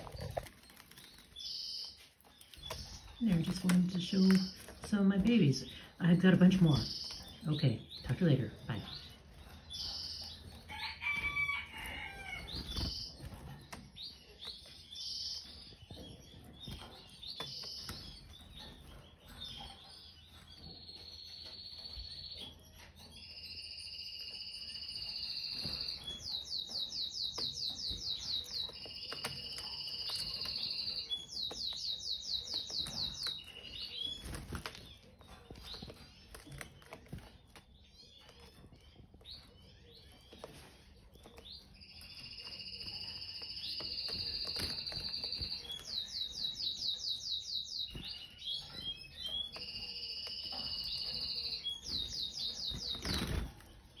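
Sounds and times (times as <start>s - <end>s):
birds fluttering in cage: 0.0s - 54.0s
canary singing: 0.0s - 54.0s.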